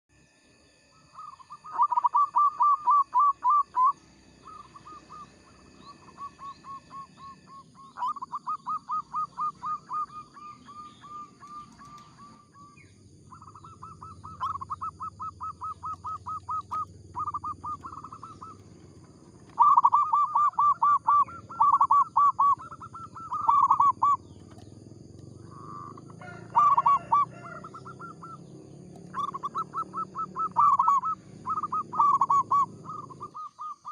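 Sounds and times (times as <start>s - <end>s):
dove cooing: 1.1s - 33.9s.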